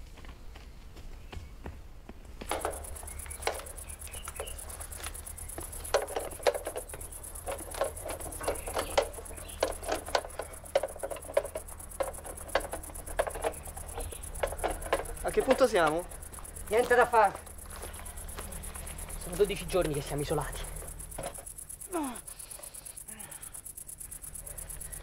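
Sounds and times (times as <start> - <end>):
footsteps on metal staircase: 0.0 - 21.5
faint high whine: 2.5 - 25.0.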